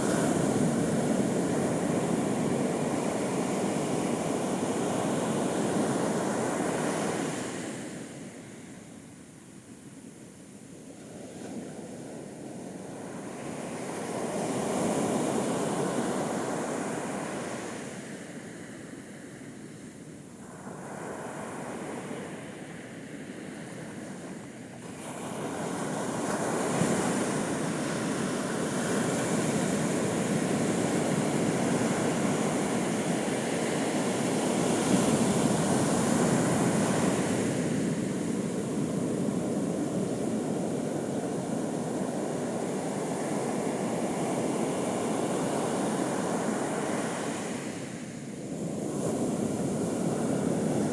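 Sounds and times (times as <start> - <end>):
ocean surf breaking on beach: 0.0 - 8.6, 11.1 - 19.8, 20.4 - 50.9.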